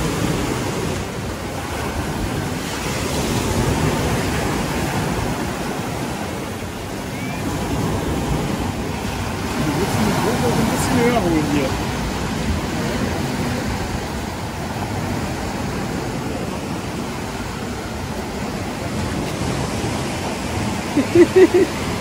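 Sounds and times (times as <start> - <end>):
sea surf washing in: 0.0 - 22.0
wind buffeting microphone: 0.0 - 22.0.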